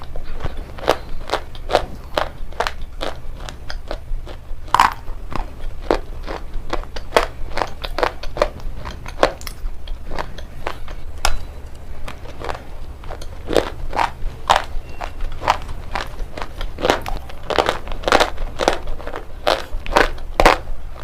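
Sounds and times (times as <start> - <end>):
steady low hum: 0.0 - 21.0
stone being chewed: 0.0 - 21.0.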